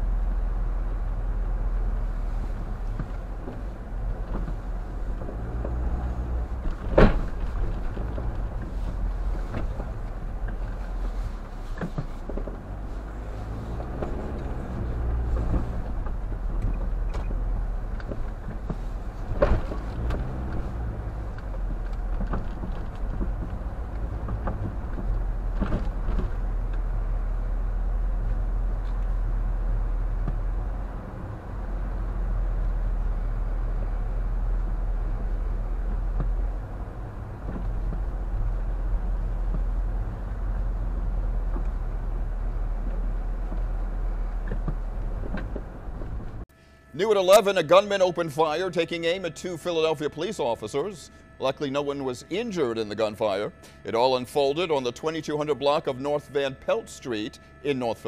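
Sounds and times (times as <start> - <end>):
car engine and road rumble: 0.0 - 47.4.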